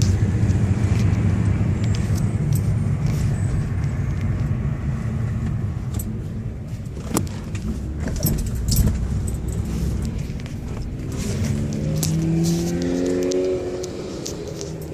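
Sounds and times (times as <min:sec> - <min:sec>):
car engine exhaust rumble: 0:00.0 - 0:14.9.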